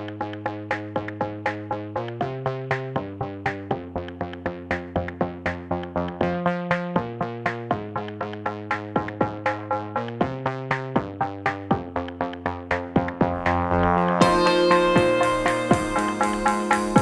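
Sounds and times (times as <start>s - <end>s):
electronic music with synth chords: 0.0s - 17.0s.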